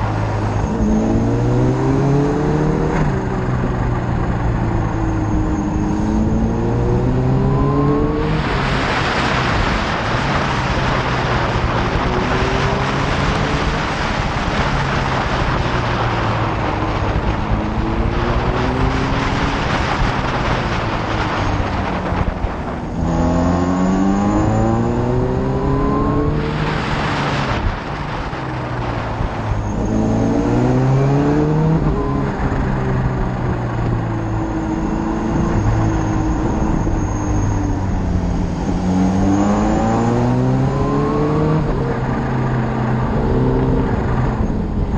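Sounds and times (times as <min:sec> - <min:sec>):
motorcycle engine accelerating: 0:00.0 - 0:44.9
wind rush over microphone: 0:00.0 - 0:44.9.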